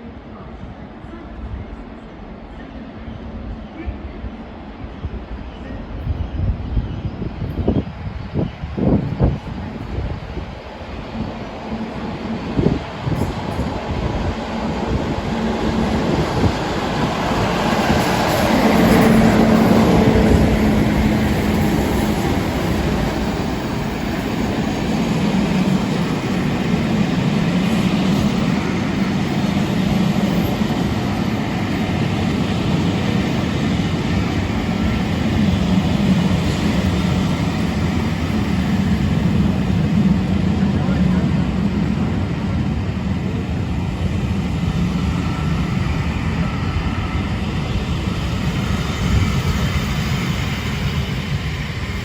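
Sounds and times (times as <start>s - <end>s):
diesel locomotive engines droning: 0.0s - 52.0s.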